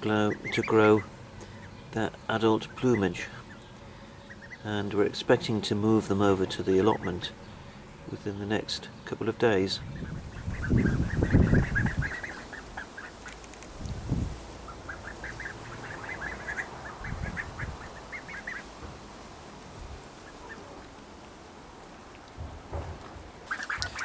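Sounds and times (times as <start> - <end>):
low rumbles: 0.0 - 12.8, 13.4 - 23.5
ducklings peeping: 0.0 - 18.9, 19.6 - 21.1, 23.4 - 24.0.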